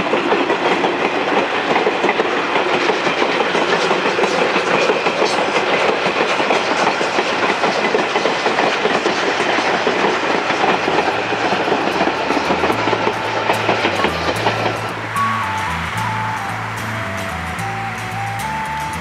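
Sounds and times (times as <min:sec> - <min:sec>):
train carriages rolling past: 0:00.0 - 0:19.0.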